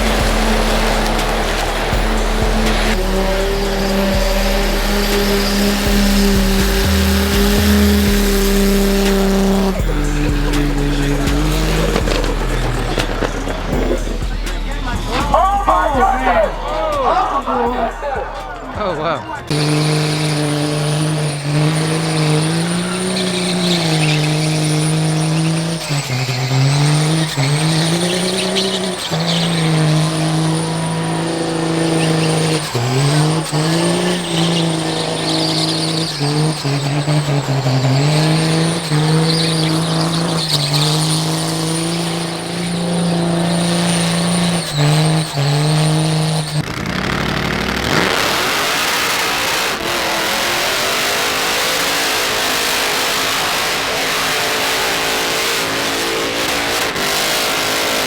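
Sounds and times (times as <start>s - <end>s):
broad rushing noise: 0.0s - 46.6s
high whistle: 0.0s - 46.6s
diesel truck engine revving: 0.0s - 58.0s.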